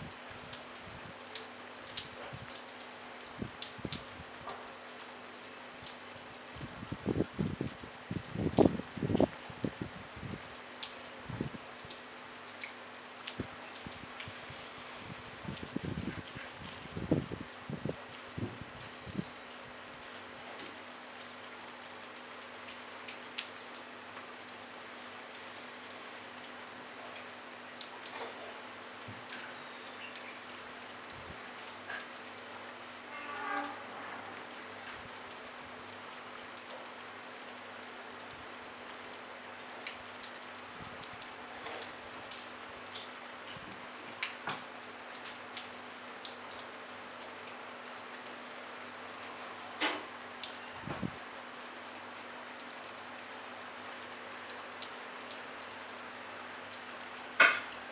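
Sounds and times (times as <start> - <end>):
light rain falling: 0.0 - 57.9
raindrops ticking sharply: 0.0 - 57.9.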